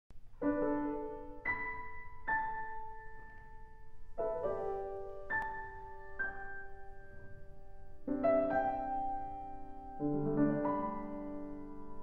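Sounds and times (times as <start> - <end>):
slow piano music: 0.1 - 12.0.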